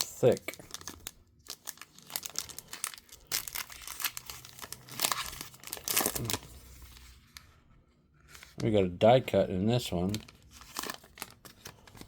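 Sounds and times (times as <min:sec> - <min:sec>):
plastic wrapper tearing and crinkling: 0:00.0 - 0:07.5, 0:09.8 - 0:12.0.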